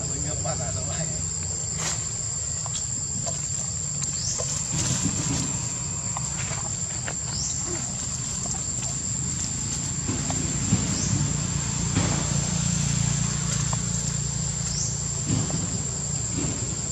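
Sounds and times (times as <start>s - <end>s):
insects droning: 0.0s - 16.9s
dry leaves crackling: 1.4s - 15.3s.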